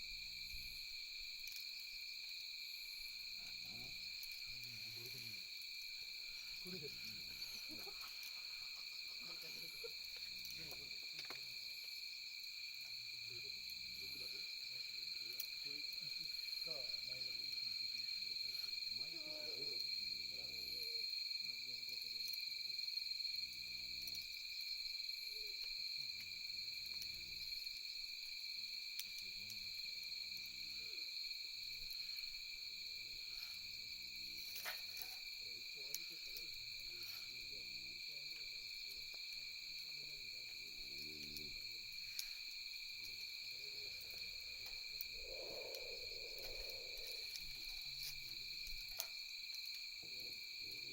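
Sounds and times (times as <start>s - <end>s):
campfire crackling: 0.0s - 50.9s
high insect chorus: 0.0s - 50.9s.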